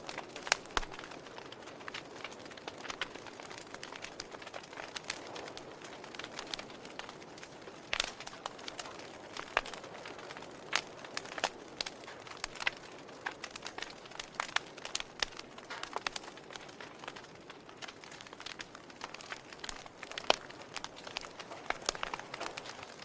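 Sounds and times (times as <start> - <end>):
fire crackling and popping: 0.0 - 23.0
soft fire hiss: 0.0 - 23.0.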